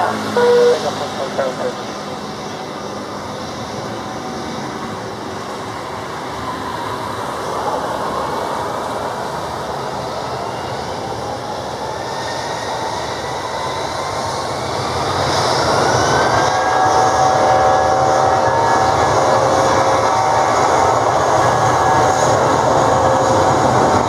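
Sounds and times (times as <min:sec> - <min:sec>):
jet engine whine rising: 0:00.0 - 0:24.0
jet engines roaring: 0:00.0 - 0:24.0.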